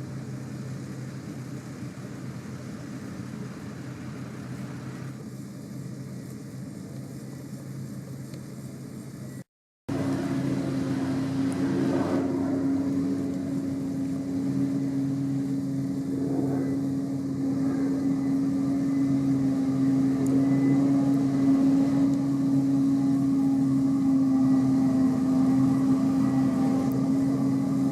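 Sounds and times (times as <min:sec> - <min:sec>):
farm machinery engine drone: 0:00.0 - 0:27.9.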